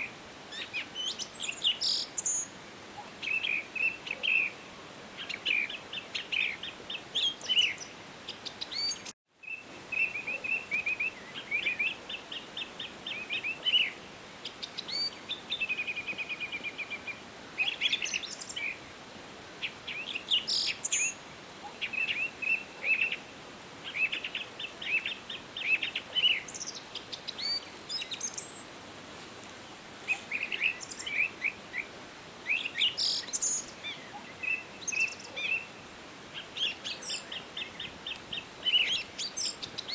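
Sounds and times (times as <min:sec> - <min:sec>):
forest birds chirping trills: 0:00.0 - 0:18.9, 0:19.6 - 0:28.7, 0:29.4 - 0:39.9
faint background hiss: 0:00.0 - 0:39.9.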